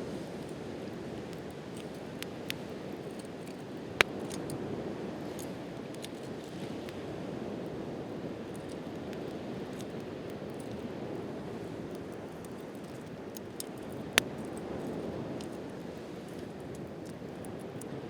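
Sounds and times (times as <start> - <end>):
sea surf washing: 0.0 - 18.0
wood campfire crackling: 0.0 - 18.0.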